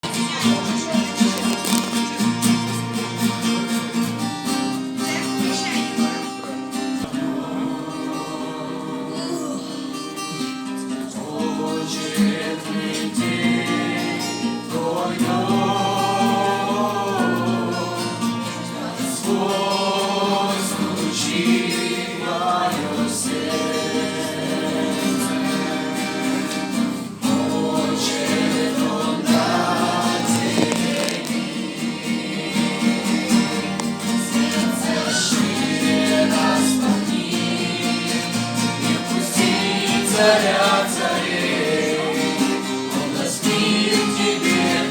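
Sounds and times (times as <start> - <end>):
voices singing: 0.0 - 3.2, 4.4 - 44.9
guitar accompaniment: 0.0 - 44.9.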